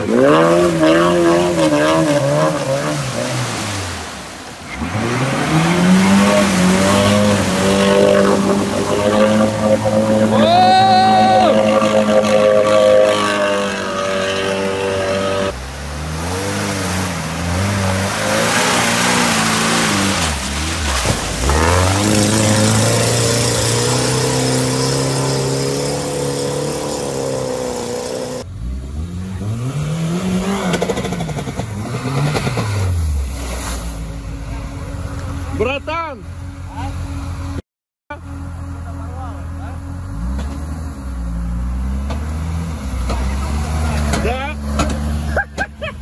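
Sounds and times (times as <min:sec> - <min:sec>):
off-road engines revving: 0:00.0 - 0:46.0.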